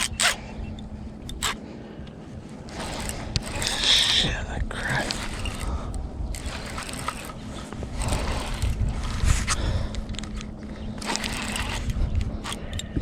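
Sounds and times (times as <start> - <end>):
fishing reel clicking: 0.0 - 1.6, 2.7 - 8.9, 9.6 - 13.0.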